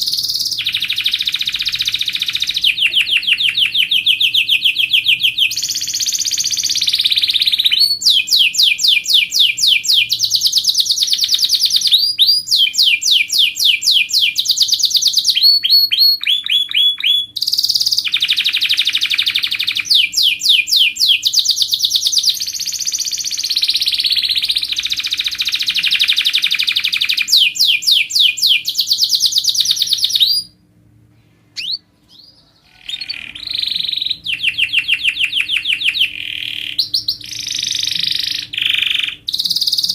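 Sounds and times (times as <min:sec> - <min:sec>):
canary singing trills: 0:00.0 - 0:30.6, 0:31.6 - 0:39.9.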